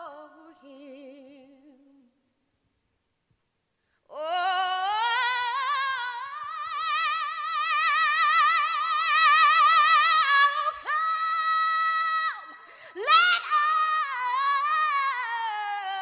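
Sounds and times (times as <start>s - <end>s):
woman singing gospel unaccompanied: 0.0s - 2.2s, 4.1s - 16.0s.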